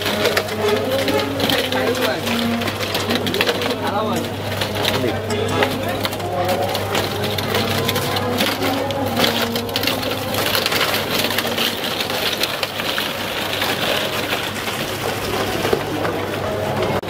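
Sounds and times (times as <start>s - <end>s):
scraper shaving ice cream: 0.0s - 15.8s
roller drum humming: 0.0s - 17.0s.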